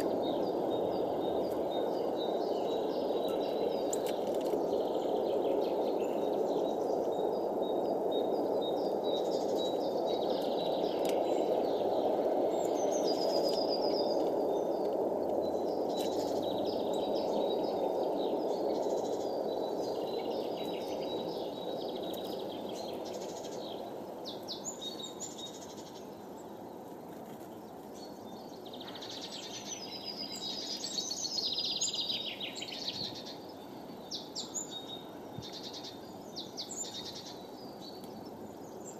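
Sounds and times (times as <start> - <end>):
low background noise: 0.0 - 38.9
songbirds chirping: 0.0 - 38.9.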